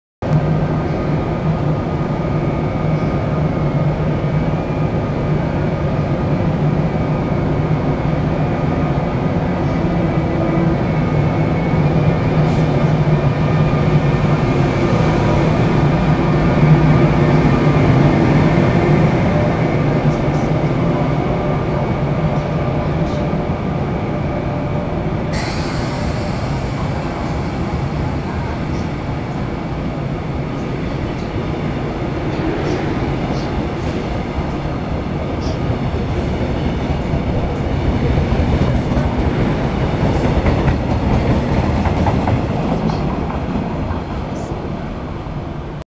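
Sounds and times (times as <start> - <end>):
electric locomotive hum: 0.3 - 45.8.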